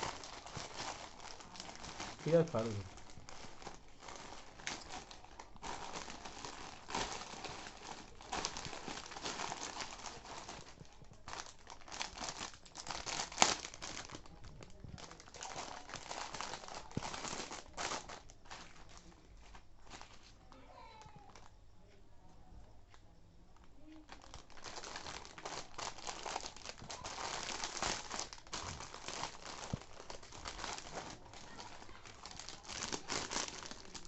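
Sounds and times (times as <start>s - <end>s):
packaging crinkling and tearing: 0.0s - 19.1s, 24.0s - 34.0s.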